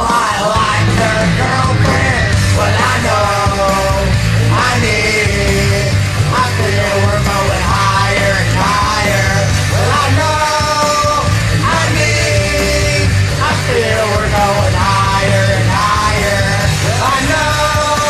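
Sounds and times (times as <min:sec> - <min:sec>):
man singing half yelling: 0:00.0 - 0:18.0
rock backing track: 0:00.0 - 0:18.0.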